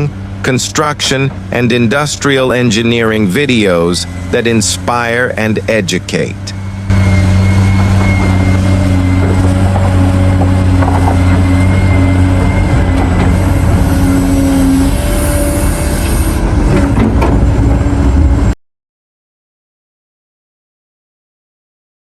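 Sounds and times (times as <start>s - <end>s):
heavy diesel engine humming: 0.0s - 18.6s.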